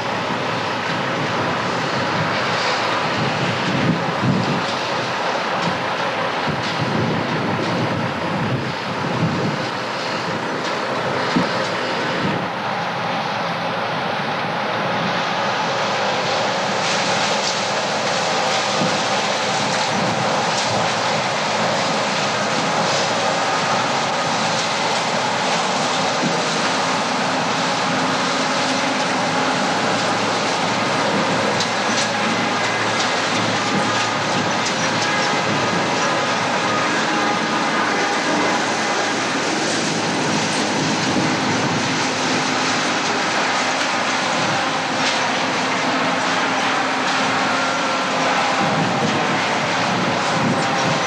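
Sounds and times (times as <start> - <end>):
combine harvester drone: 0.0 - 51.0.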